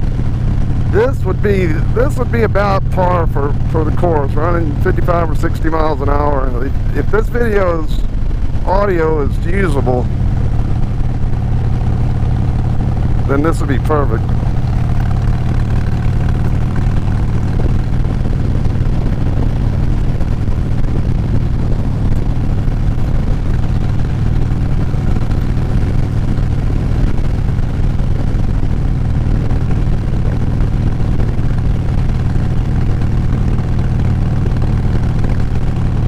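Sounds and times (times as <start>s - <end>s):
motorcycle engine cruising: 0.0s - 36.0s.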